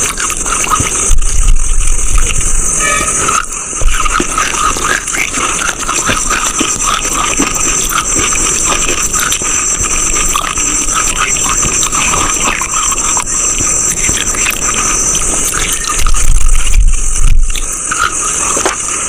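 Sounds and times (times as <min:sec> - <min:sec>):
crunching and chewing chalk: 0:00.0 - 0:19.0
steady high hiss: 0:00.0 - 0:19.0.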